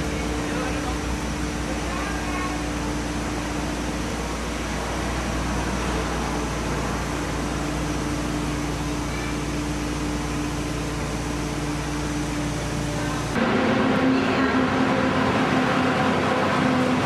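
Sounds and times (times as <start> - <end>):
cars rumbling in slow traffic: 0.0 - 17.0.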